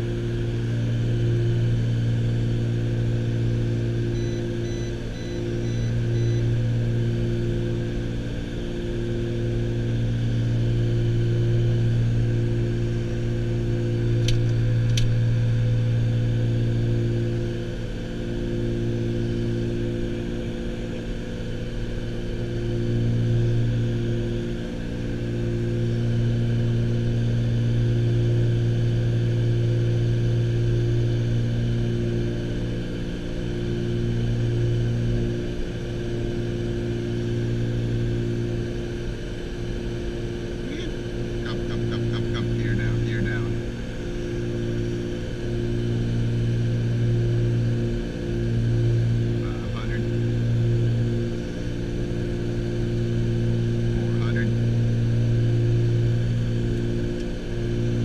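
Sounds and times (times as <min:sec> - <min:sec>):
propeller engines droning: 0:00.0 - 0:58.0.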